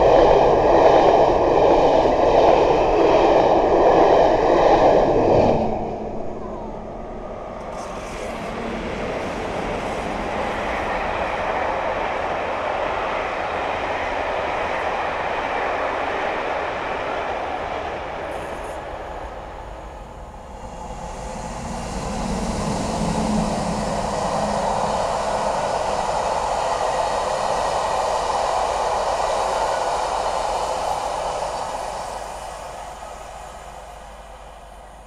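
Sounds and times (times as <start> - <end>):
diesel train passing: 0.0 - 35.0.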